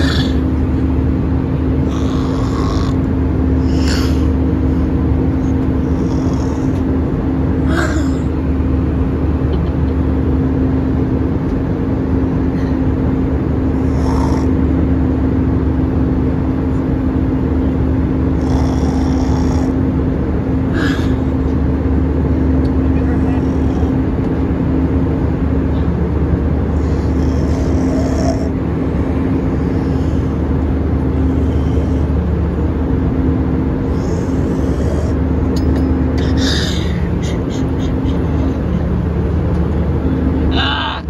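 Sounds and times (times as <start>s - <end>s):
airliner cabin drone: 0.0s - 41.0s.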